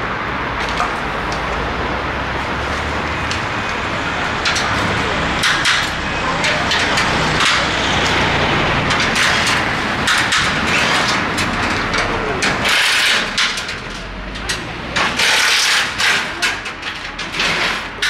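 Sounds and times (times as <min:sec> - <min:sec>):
street traffic rumble: 0:00.0 - 0:18.0
steel frame clanking and rattling: 0:02.6 - 0:18.0.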